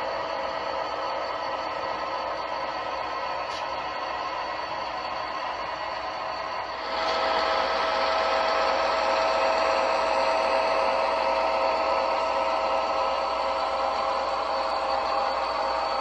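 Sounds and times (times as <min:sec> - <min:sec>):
model locomotives humming on track: 0:00.0 - 0:16.0.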